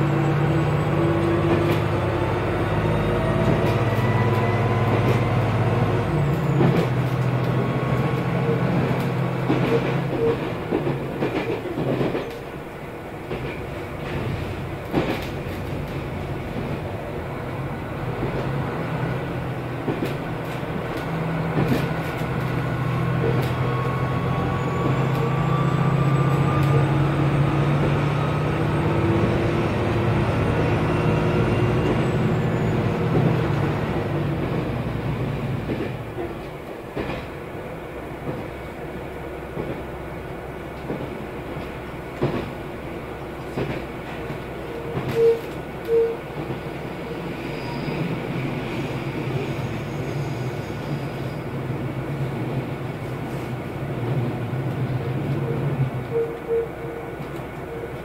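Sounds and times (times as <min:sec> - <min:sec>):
diesel railcar engine: 0:00.0 - 0:58.0.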